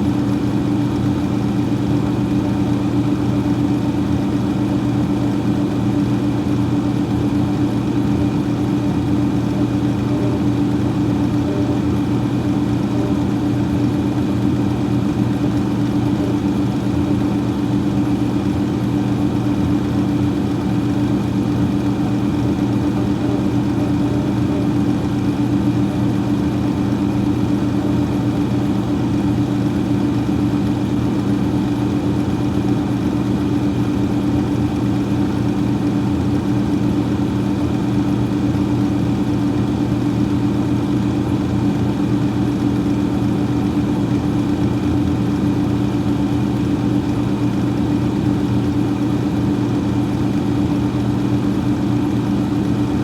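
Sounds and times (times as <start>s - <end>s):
freezer fan humming: 0.0s - 53.0s.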